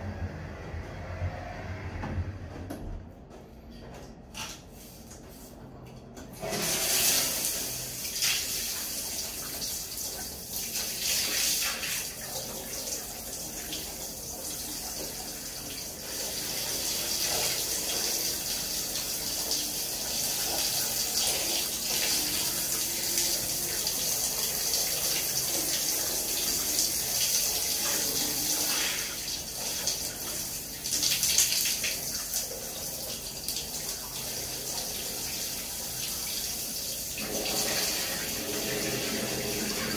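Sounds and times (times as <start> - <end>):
shower water on tiled floor: 4.3 - 39.9.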